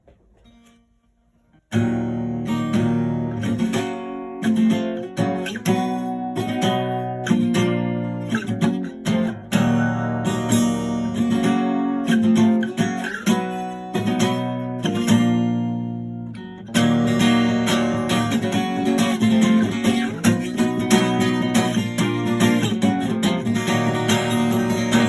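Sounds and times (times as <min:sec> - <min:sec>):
acoustic guitar strumming chords: 0:00.4 - 0:25.0.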